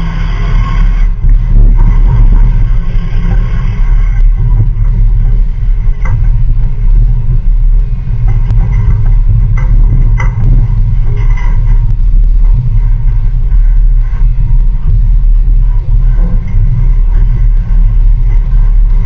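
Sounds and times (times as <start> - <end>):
diesel truck engine rumble: 0.0 - 19.0
wind buffeting microphone: 0.0 - 19.0.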